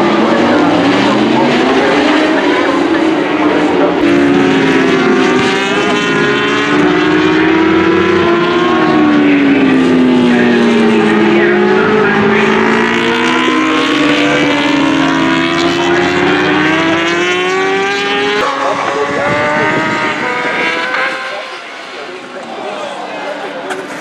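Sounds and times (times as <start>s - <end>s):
racing engines revving: 0.0s - 24.0s.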